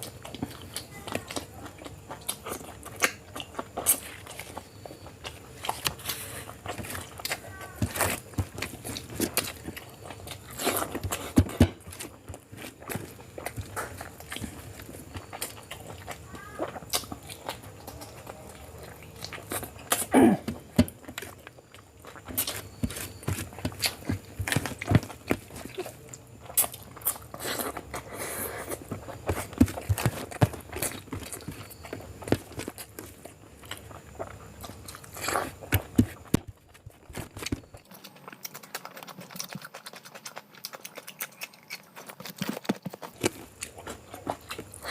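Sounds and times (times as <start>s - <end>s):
chewing and mouth smacking: 0.0s - 44.9s.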